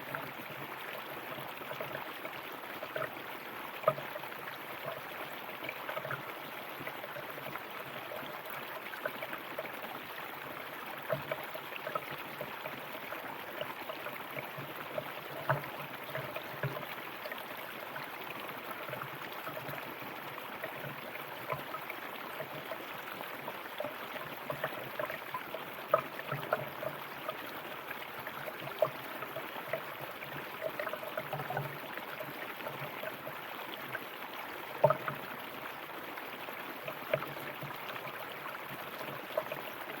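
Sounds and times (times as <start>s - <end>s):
river water flowing over rocks: 0.0s - 40.0s.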